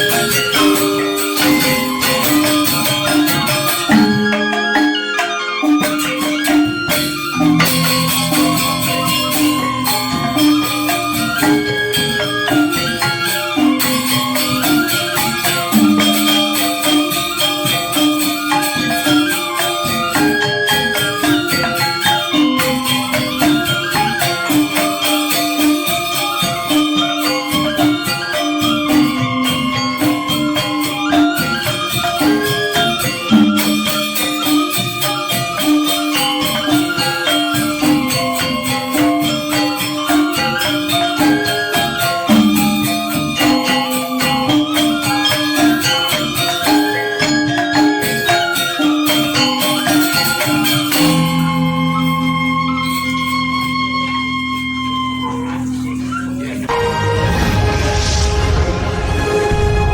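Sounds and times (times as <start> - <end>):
bamboo percussion: 0.0 - 59.9
gamelan gong-chimes and metallophones: 0.0 - 59.9.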